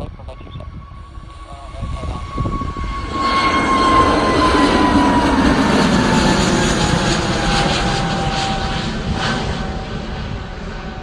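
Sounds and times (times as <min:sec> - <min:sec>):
airliner engines passing: 0:00.0 - 0:11.0.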